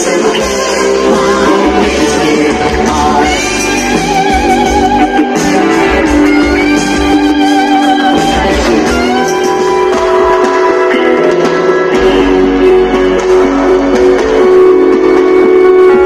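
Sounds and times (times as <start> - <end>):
guitar bent notes: 0.0 - 16.0
live rock band music: 0.0 - 16.0.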